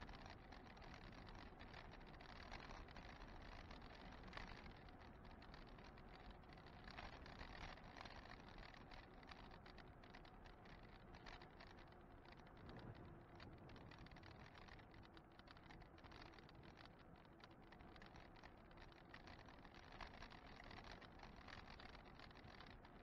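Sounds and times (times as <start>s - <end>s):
light clicks and rattles: 0.0s - 23.0s
bike road noise: 2.6s - 22.6s.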